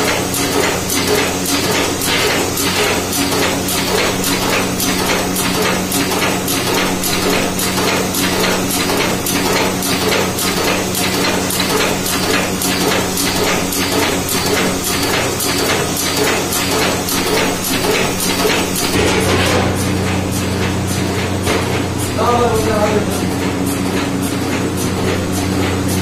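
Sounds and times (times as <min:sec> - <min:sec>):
machine clacking: 0:00.0 - 0:26.0
motor hum: 0:00.0 - 0:26.0.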